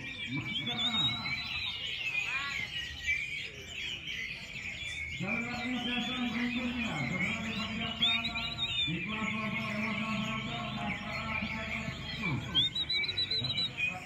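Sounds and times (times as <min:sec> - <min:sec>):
chorus of thrushes singing: 0:00.0 - 0:14.0.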